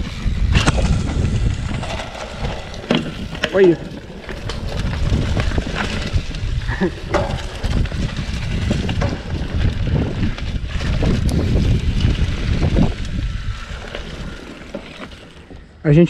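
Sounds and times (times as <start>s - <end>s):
bike rattling and knocking: 0.0s - 15.7s
tyres on dirt: 0.0s - 16.0s
wind rushing over microphone: 0.0s - 16.0s.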